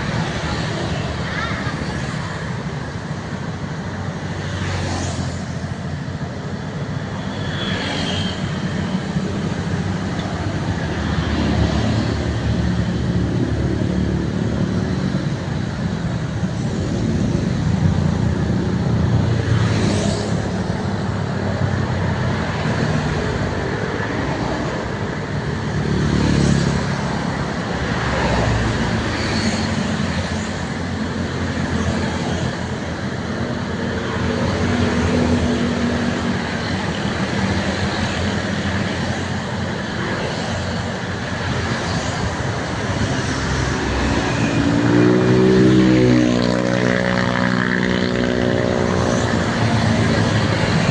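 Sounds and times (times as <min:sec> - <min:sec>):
vehicles driving past: 0:00.0 - 0:50.9.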